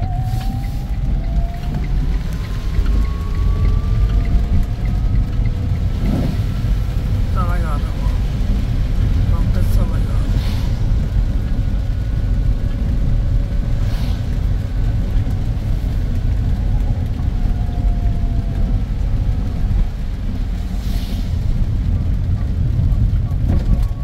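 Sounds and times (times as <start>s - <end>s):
engine and tyres on wet road: 0.0s - 24.0s
windscreen wipers swishing: 0.0s - 24.0s.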